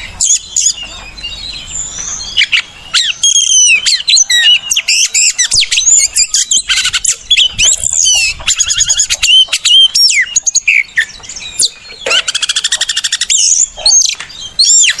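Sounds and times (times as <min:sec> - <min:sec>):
fast bird trill: 0:00.0 - 0:15.0
bird singing whistles: 0:00.2 - 0:15.0.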